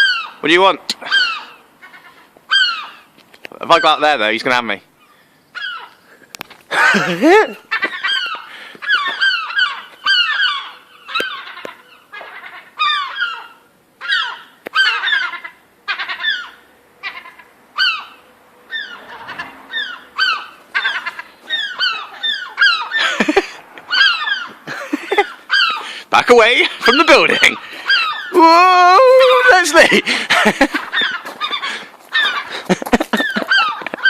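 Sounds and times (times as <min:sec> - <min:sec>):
seagull calling: 0:00.0 - 0:04.1, 0:05.0 - 0:06.2, 0:06.8 - 0:34.0.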